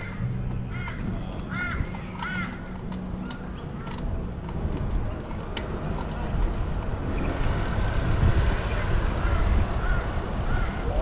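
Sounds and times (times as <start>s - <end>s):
street traffic: 0.0s - 11.0s
wind: 0.0s - 11.0s.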